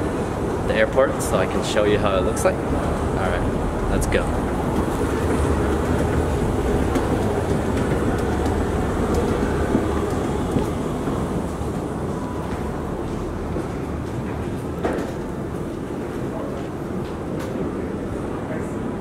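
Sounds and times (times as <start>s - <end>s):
low terminal background rumble: 0.0s - 19.0s.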